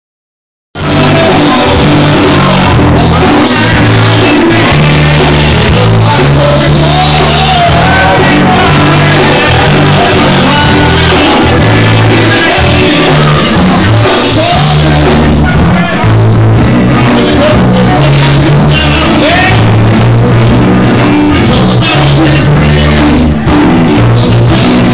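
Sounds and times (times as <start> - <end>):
heavy bass line: 0.7 - 24.9
lead singer singing: 0.8 - 24.9
live rock band playing: 0.8 - 24.9.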